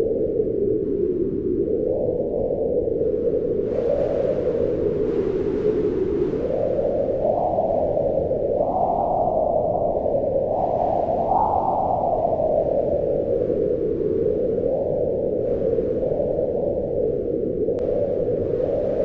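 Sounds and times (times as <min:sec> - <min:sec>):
strong wind howling: 0:00.0 - 0:19.0.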